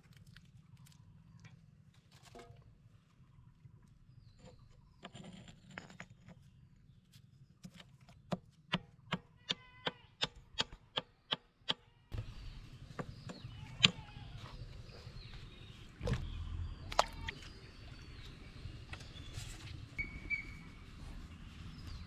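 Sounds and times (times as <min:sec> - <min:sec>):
outdoor background: 0:00.0 - 0:22.0.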